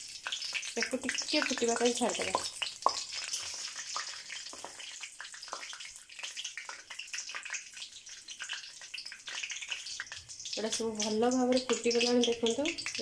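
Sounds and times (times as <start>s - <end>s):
crackles and pops of spices: 0.0s - 13.0s
spices sizzling in hot oil: 0.0s - 13.0s.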